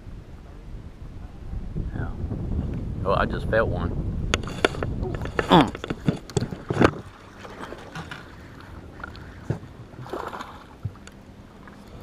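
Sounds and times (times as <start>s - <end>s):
water noise around boat: 0.0s - 12.0s
wind: 0.0s - 12.0s.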